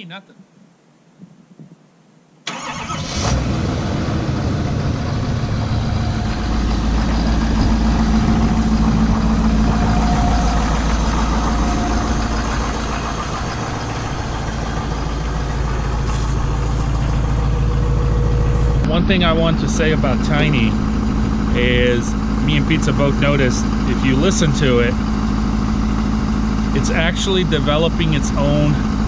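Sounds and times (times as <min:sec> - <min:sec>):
diesel truck engine starting and idling: 0:02.4 - 0:29.0.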